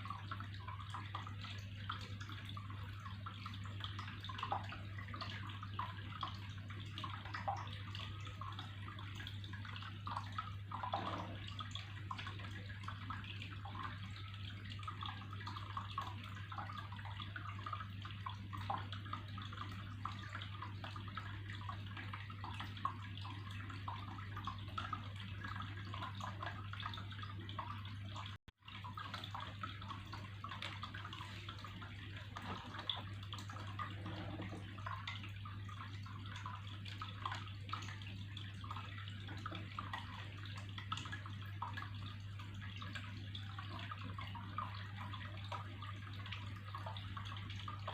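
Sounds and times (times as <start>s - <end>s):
water trickling and splashing: 0.0s - 47.9s.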